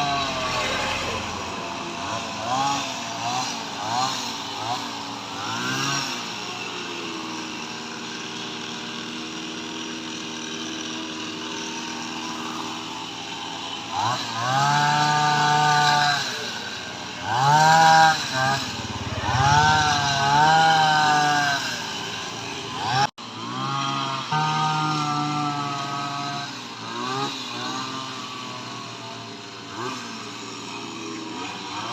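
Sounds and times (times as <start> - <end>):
hedge trimmer engine revving: 0.0 - 31.9.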